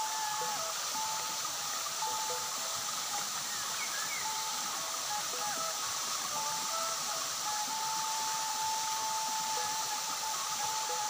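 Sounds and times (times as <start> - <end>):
thin whistling tones: 0.0 - 11.0
waterfall rushing: 0.0 - 11.0.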